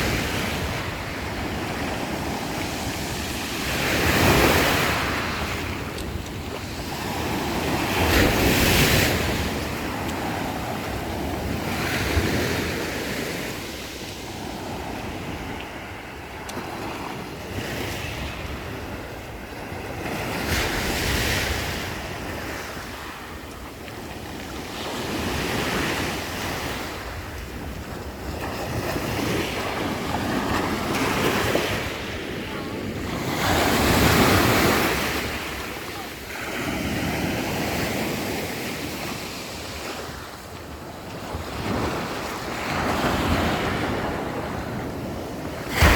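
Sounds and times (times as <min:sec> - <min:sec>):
waves breaking on shore: 0:00.0 - 0:45.9.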